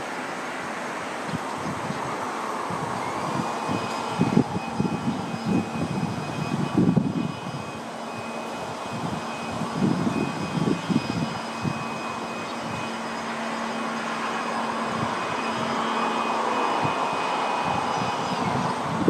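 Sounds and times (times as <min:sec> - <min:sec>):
distant jet engine hiss: 0:00.0 - 0:19.0
wind buffeting microphone: 0:01.2 - 0:19.0.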